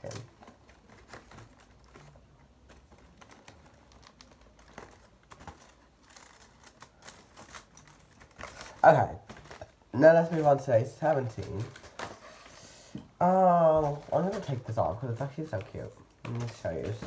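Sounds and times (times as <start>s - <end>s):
cardboard clicks and rustles: 0.0s - 12.5s, 13.5s - 17.0s.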